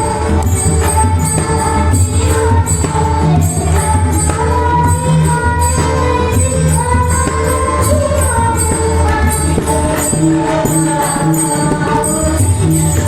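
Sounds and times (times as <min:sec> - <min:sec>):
pakhawaj and tabla drumming: 0:00.0 - 0:13.0.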